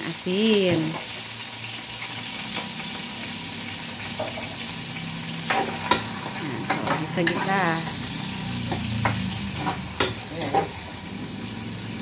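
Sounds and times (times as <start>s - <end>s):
onions and garlic sizzling in oil: 0.0s - 12.0s.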